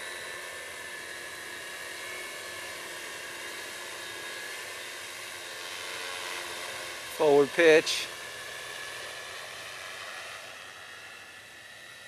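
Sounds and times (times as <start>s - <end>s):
drone motors and propellers: 0.0s - 12.0s.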